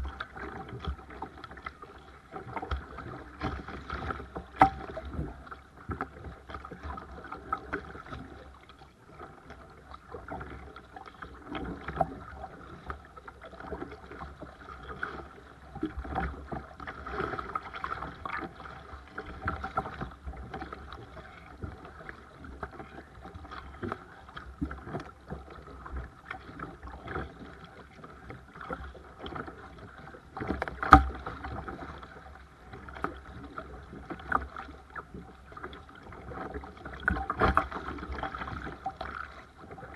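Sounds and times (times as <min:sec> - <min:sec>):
paddle strokes splashing: 0:00.0 - 0:39.9
water against kayak hull: 0:00.0 - 0:39.9.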